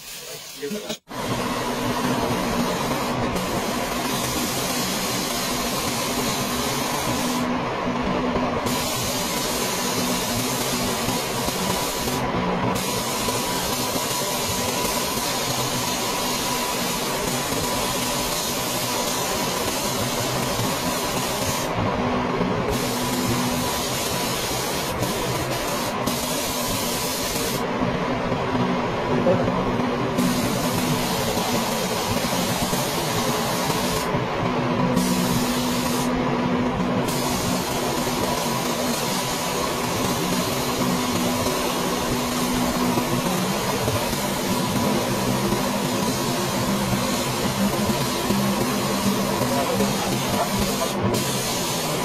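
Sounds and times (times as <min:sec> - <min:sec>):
paint spray gun hissing: 0:00.0 - 0:07.5, 0:08.6 - 0:21.8, 0:22.6 - 0:27.7, 0:30.2 - 0:34.2, 0:34.9 - 0:36.2, 0:37.0 - 0:52.0.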